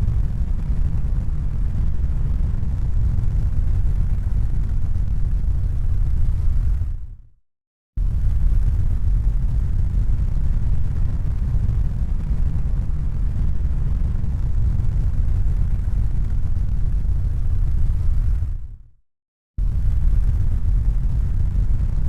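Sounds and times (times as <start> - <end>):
low rumbling noise: 0.0 - 7.2, 8.0 - 18.8, 19.6 - 22.0.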